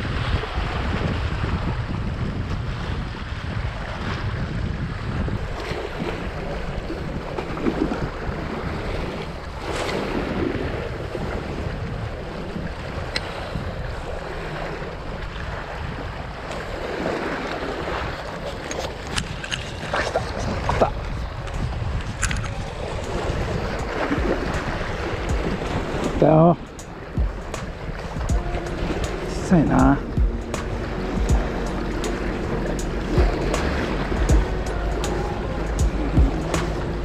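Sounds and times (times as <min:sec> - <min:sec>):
waves washing against rocks: 0:00.0 - 0:37.0
wind buffeting microphone: 0:00.0 - 0:37.0.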